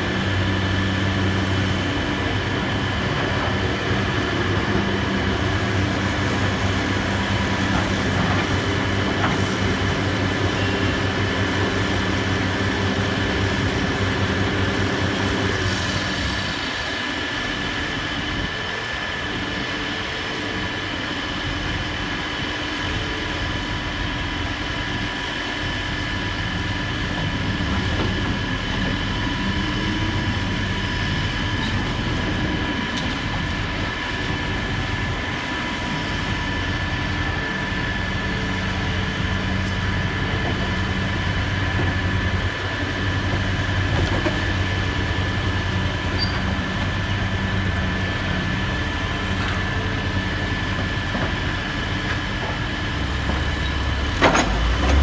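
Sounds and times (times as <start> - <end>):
heavy diesel machinery running: 0.0 - 55.0
high machine whine: 0.0 - 55.0.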